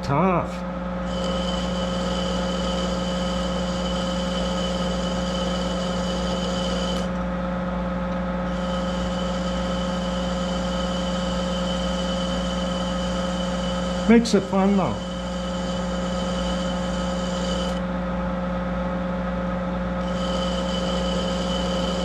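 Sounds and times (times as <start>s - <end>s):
lathe running with steady whine: 0.1s - 22.0s.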